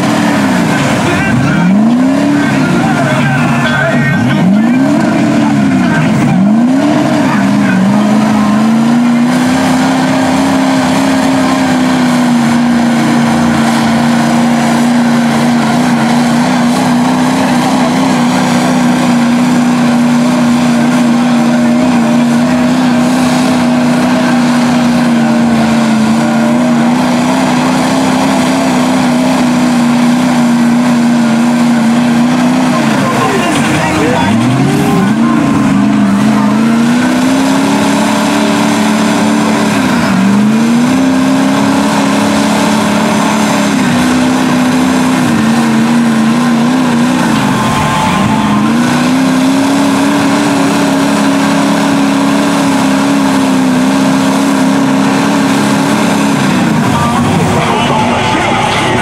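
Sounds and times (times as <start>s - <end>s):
tires churning through mud: 0.0s - 59.0s
truck engine revving: 0.0s - 59.0s.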